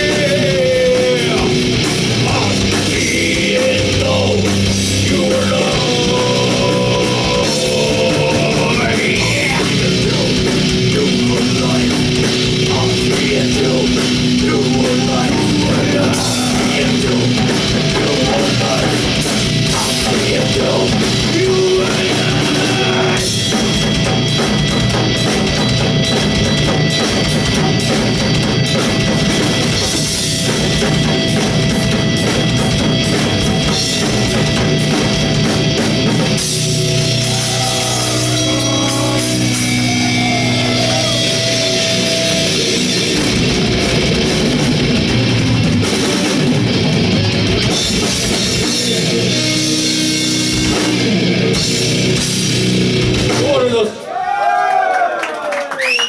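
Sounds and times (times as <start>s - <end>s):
drum kit: 0.0s - 54.0s
guitar: 0.0s - 54.0s
live rock band playing: 0.0s - 54.1s.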